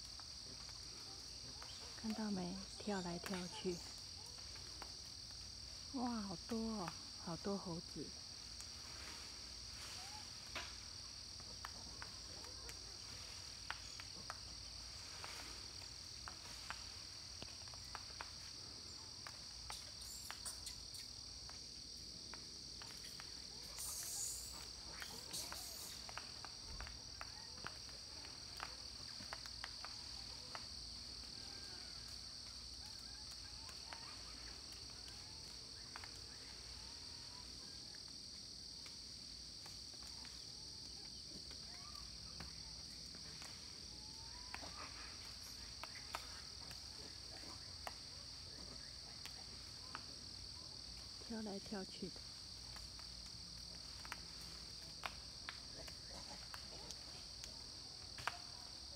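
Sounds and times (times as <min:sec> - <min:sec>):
insect chorus drone: 0:00.0 - 0:58.9.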